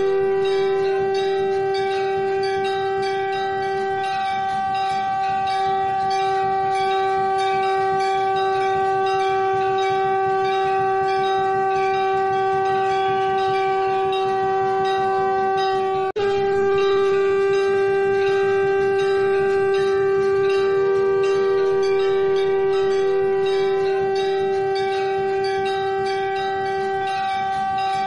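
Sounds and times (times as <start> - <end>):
conch shell blown: 0.0 - 28.0
light rhythmic ringing: 0.0 - 28.0.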